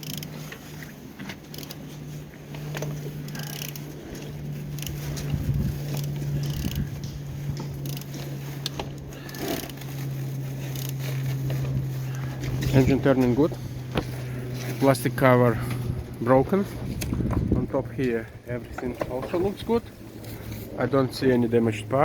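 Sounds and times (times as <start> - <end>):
engine being turned over: 0.0 - 21.1
mechanical hum: 0.0 - 22.0.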